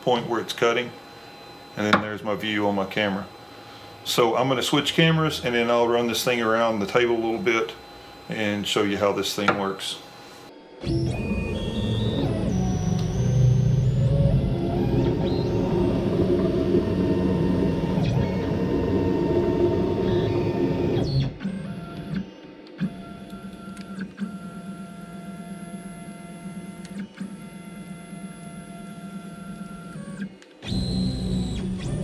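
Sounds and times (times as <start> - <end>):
stepper motors whining: 0.0 - 32.0.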